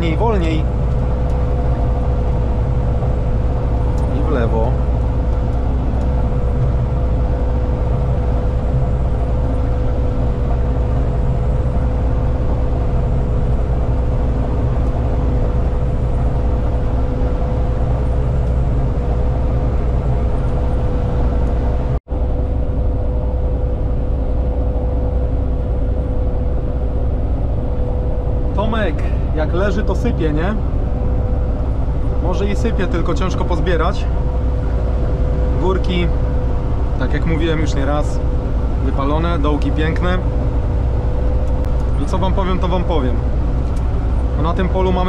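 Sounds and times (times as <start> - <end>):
combine harvester engine drone: 0.0 - 45.0
steady whine: 0.0 - 45.0.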